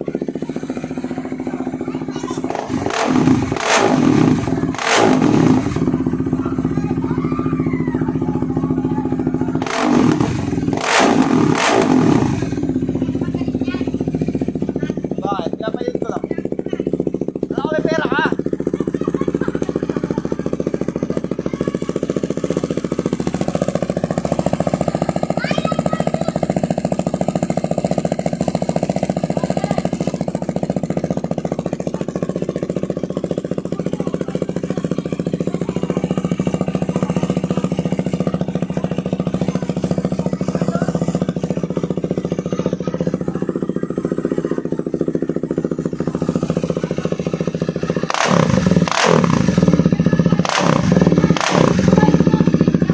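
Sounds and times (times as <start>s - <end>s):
motorcycle engine idling: 0.0s - 52.9s.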